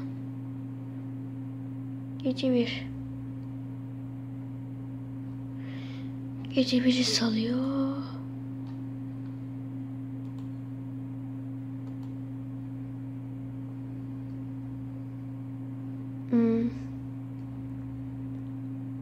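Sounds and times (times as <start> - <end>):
low electronic hum: 0.0 - 19.0.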